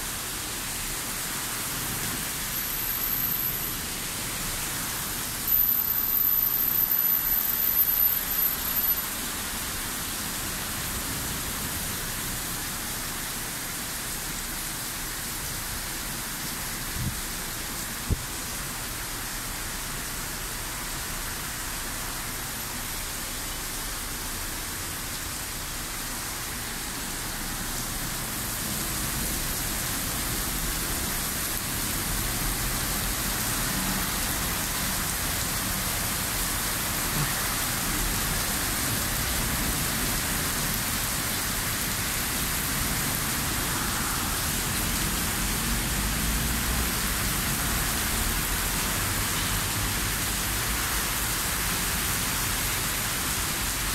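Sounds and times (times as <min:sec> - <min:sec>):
heavy rain pouring on street: 0:00.0 - 0:53.9.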